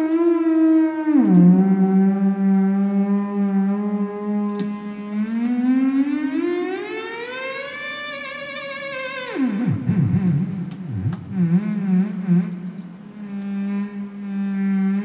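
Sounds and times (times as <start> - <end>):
theremin playing: 0.0 - 15.0.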